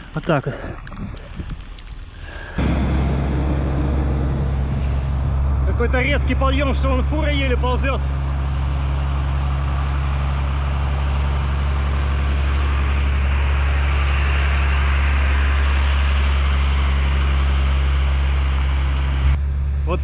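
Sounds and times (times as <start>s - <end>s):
road noise: 2.6s - 19.4s
truck diesel engine labouring: 2.6s - 20.0s.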